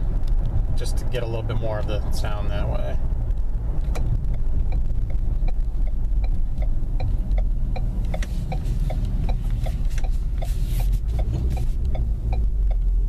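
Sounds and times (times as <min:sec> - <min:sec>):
car engine drone: 0:00.0 - 0:13.0
road noise: 0:00.0 - 0:13.0
turn signal clicking: 0:00.1 - 0:00.6, 0:03.0 - 0:13.0.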